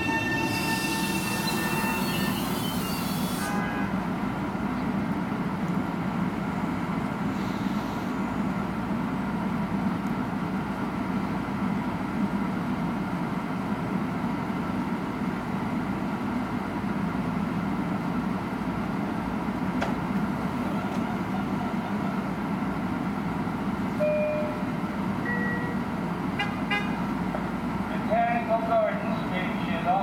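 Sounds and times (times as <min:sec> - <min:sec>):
electric train humming: 0:00.0 - 0:29.9.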